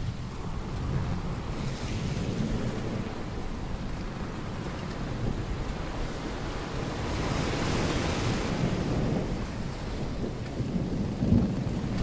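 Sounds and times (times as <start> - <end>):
waves surging: 0.0 - 10.4
wind: 0.0 - 12.0.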